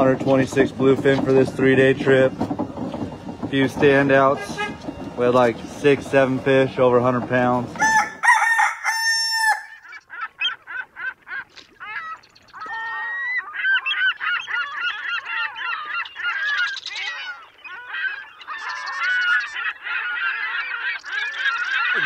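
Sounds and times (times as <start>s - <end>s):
flock of birds honking: 0.0s - 22.0s.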